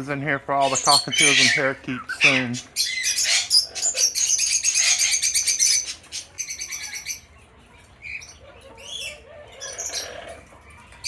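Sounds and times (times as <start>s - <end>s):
cockatiels and budgies chirping: 0.5s - 11.0s.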